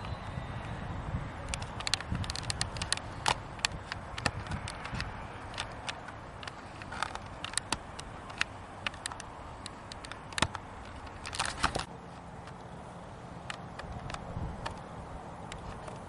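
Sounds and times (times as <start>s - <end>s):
sharp clicks and crackles: 1.4s - 12.7s, 13.4s - 16.0s.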